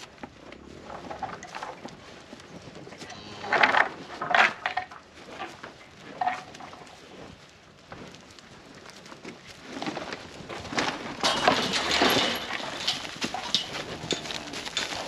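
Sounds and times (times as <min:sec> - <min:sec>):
cattle hooves clattering: 0:00.0 - 0:15.0.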